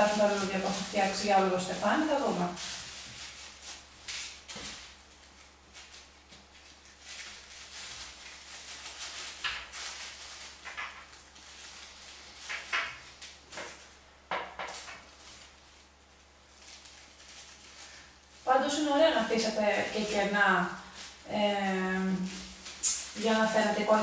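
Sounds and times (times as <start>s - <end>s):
paper flowers rustling: 0.0s - 24.0s.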